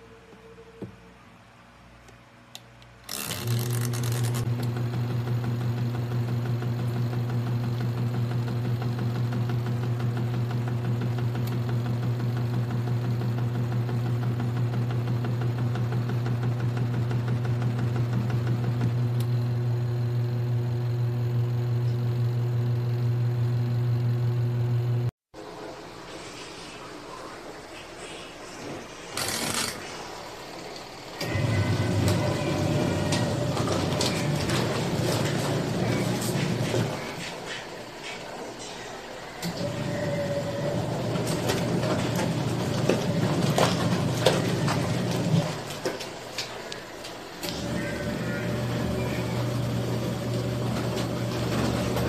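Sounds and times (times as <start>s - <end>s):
washing machine motor humming: 3.0s - 25.9s, 28.6s - 52.0s.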